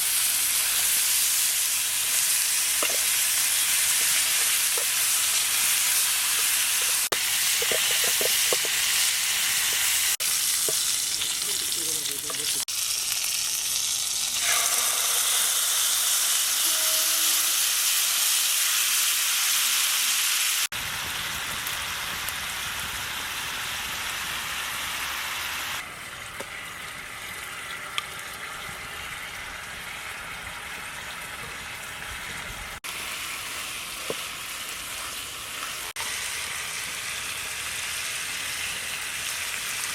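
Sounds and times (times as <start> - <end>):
prawns sizzling in a pan: 0.0 - 39.9.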